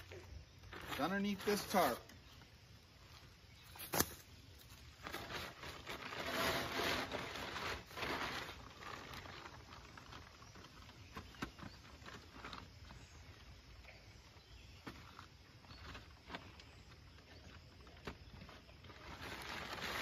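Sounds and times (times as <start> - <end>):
tarp rustling and crinkling: 0.0 - 20.0.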